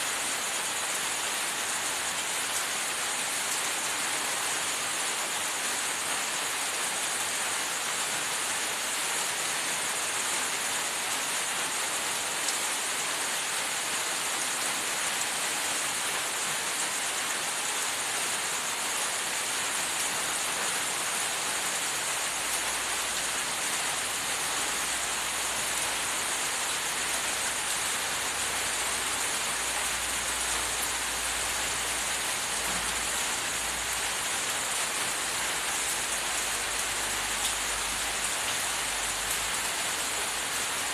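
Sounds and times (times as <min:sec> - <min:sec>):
steady hiss: 0:00.0 - 0:40.9.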